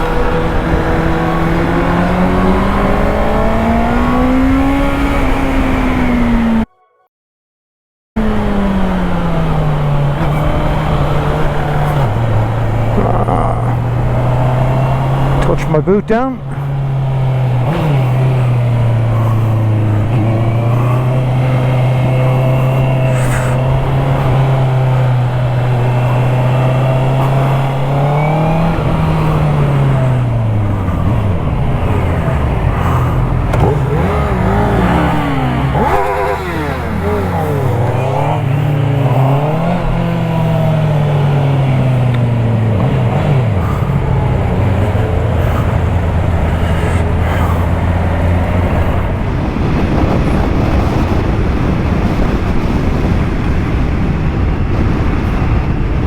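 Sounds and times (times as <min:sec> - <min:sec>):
motorcycle engine accelerating: 0:00.0 - 0:06.7, 0:08.2 - 0:56.0.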